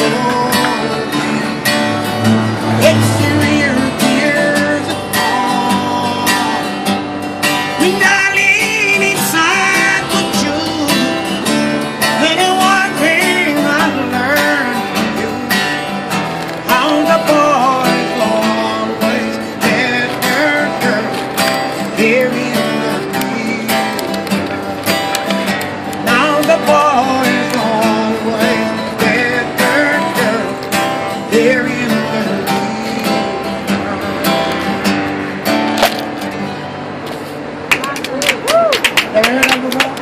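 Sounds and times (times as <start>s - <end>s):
acoustic guitar strumming: 0.0s - 37.7s.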